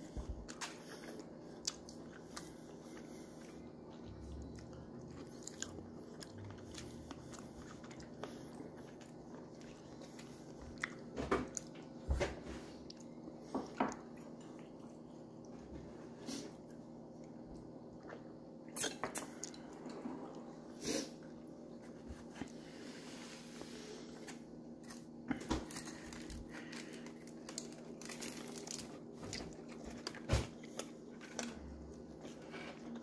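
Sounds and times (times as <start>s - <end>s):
crunching and chewing taco: 0.0s - 22.7s, 23.6s - 33.0s
faint steady hum: 0.0s - 33.0s.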